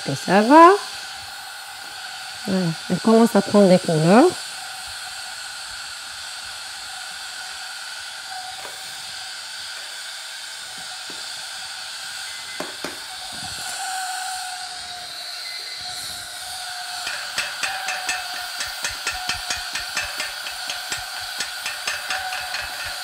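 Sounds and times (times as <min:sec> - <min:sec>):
pressure cooker hissing steam: 0:00.0 - 0:23.0.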